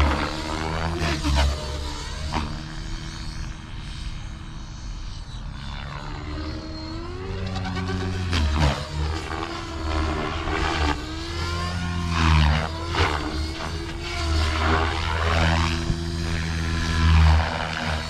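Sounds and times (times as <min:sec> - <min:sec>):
rc helicopter flying past: 0:00.0 - 0:18.0.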